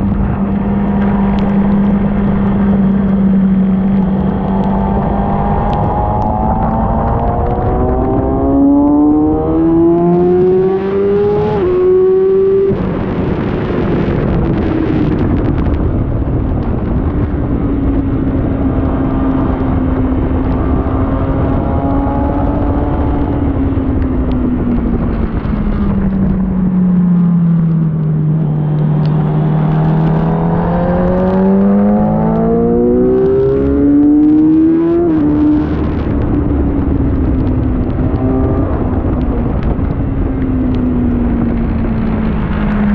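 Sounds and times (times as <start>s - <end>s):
motorcycle engine revving: 0.0s - 42.9s
steady rushing noise: 0.0s - 42.9s.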